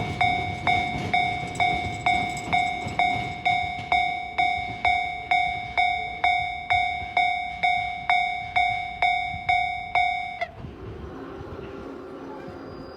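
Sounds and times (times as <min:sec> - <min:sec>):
level crossing warning bell: 0:00.0 - 0:10.8.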